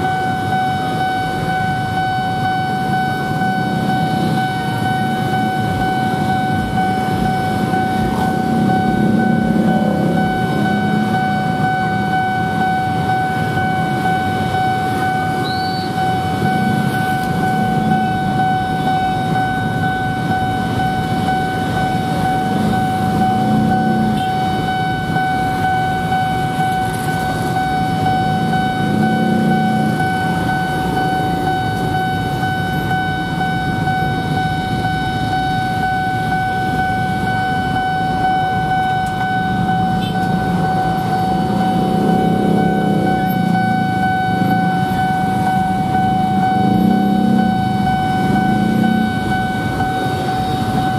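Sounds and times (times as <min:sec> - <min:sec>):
level crossing warning tone: 0:00.0 - 0:50.9
minibus engine: 0:00.0 - 0:50.9
motorcycle engines running: 0:00.0 - 0:50.9.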